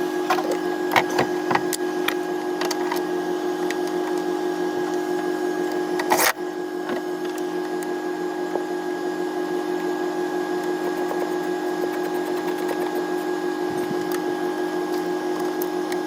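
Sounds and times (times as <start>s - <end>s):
vacuum pump motor hum: 0.0s - 16.0s.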